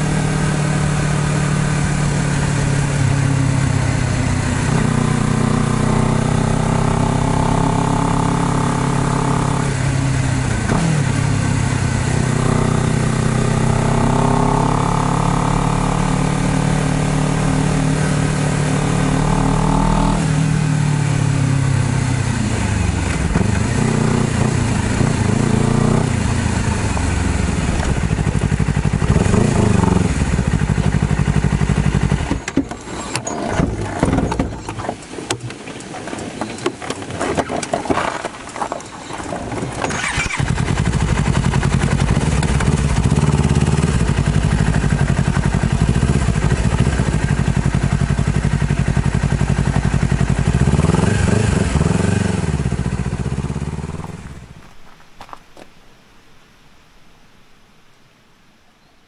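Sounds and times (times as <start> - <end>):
motorcycle engine revving: 0.0 - 34.2, 39.4 - 54.8.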